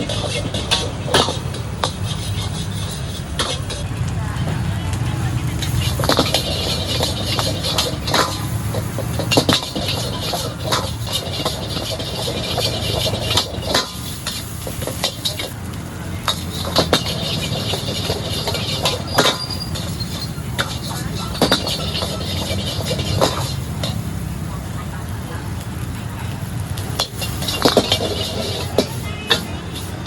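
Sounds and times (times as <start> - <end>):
metal spatula scraping a wok: 0.0 - 3.9, 5.4 - 24.3, 26.8 - 30.0
low roar of stir-frying: 0.0 - 30.0.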